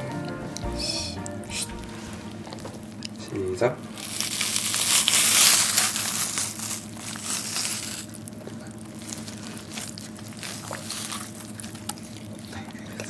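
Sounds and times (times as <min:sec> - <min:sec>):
wet cabbage leaves crackling: 0:02.5 - 0:13.0.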